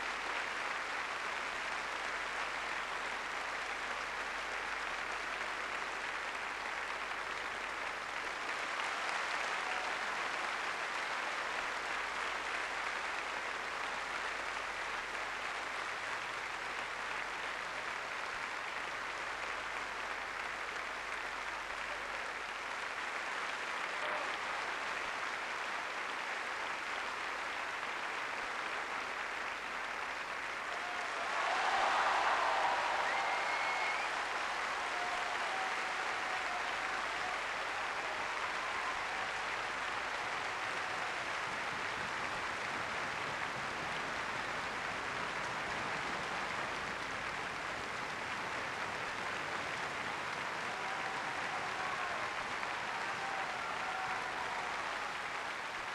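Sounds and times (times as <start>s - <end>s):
audience applauding: 0.0s - 55.9s.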